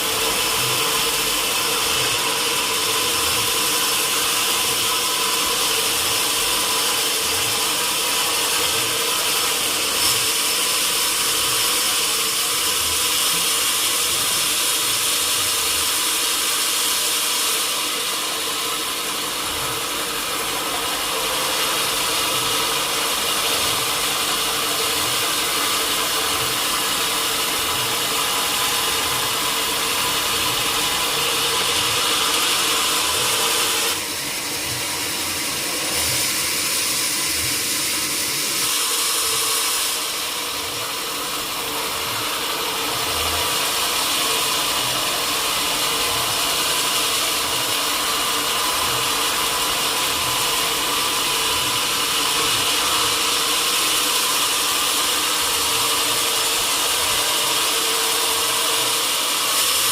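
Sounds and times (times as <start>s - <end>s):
sawmill saw and machinery running: 0.0s - 59.9s.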